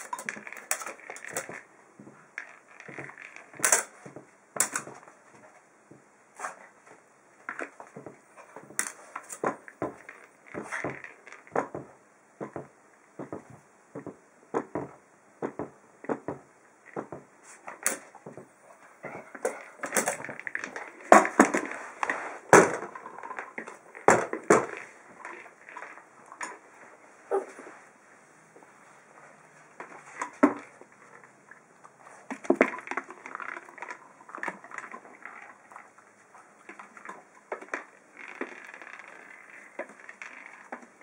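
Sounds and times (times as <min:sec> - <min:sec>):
treat ball knocking and rattling: 0:00.0 - 0:06.1, 0:07.4 - 0:26.7, 0:32.3 - 0:41.0.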